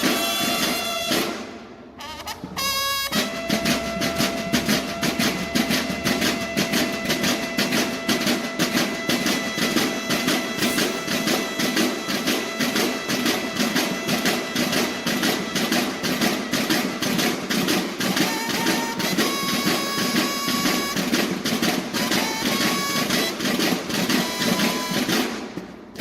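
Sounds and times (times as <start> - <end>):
snare drums marching cadence: 0.0 - 26.0.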